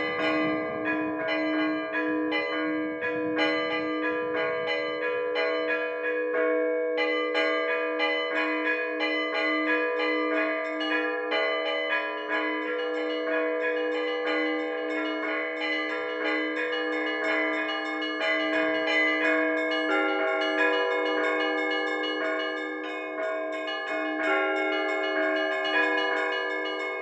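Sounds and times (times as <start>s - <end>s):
large bell ringing: 0.0s - 27.0s
small church bells struck quickly: 0.0s - 27.0s.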